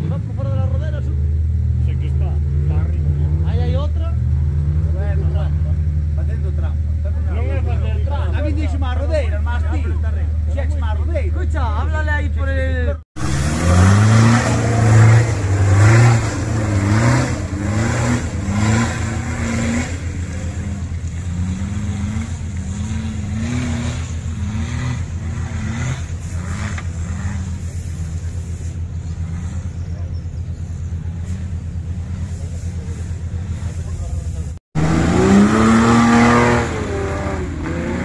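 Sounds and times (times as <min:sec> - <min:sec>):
off-road engine revving: 0:00.0 - 0:38.0.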